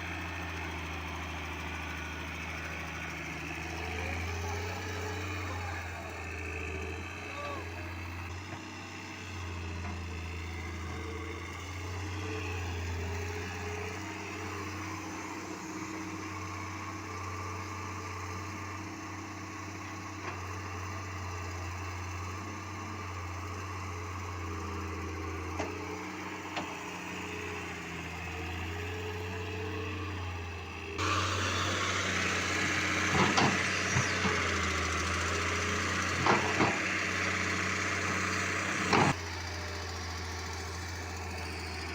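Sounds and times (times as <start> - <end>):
construction machinery engine: 0.0 - 41.9.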